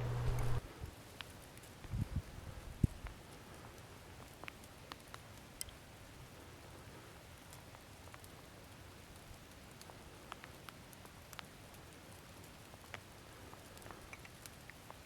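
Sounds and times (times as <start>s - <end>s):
faint outdoor hiss: 0.0s - 15.0s
light ticks and patters: 0.0s - 15.0s.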